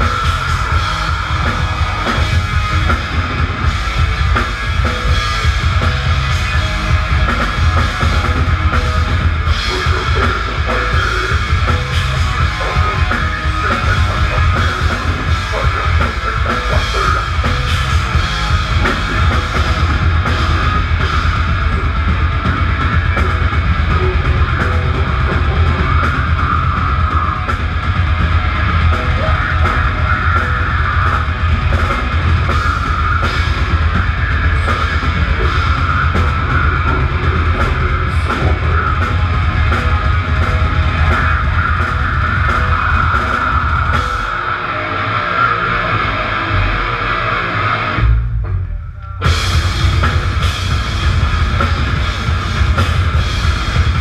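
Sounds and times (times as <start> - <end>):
fast drumming: 0.0 - 47.0, 49.2 - 54.0
rock band playing heavy music: 0.0 - 54.0.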